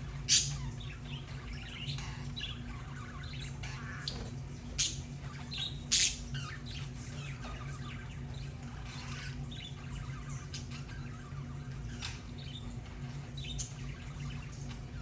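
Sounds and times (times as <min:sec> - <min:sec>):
steady low hum: 0:00.0 - 0:15.0
budgerigars chattering: 0:00.2 - 0:12.8.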